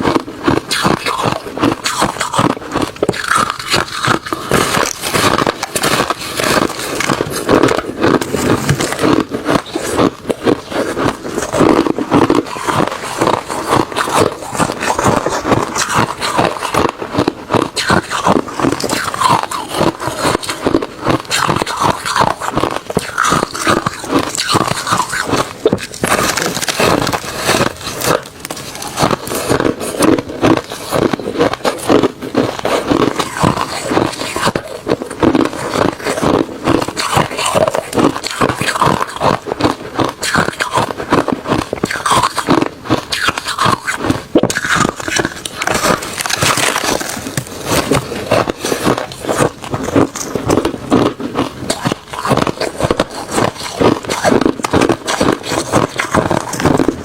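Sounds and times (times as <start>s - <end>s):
person chewing ice: 0.0s - 57.0s.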